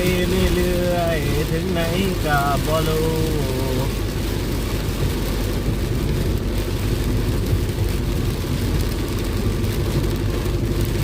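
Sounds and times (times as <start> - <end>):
car engine and road drone: 0.0 - 11.0
heavy rain on car body: 0.0 - 11.0.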